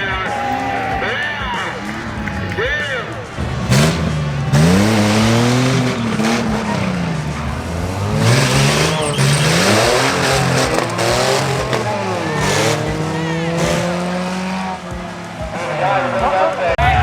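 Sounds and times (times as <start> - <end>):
car engines accelerating hard: 0.0 - 17.0.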